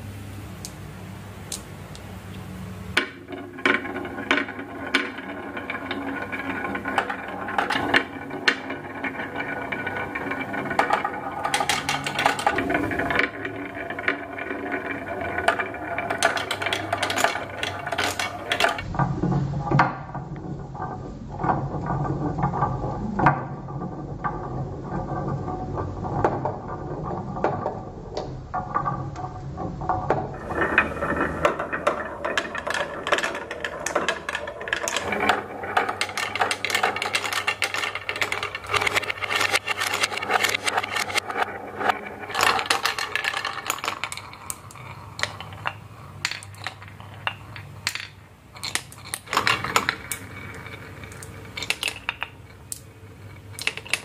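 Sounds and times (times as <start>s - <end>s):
marbles rolling down wooden run: 2.9s - 54.0s.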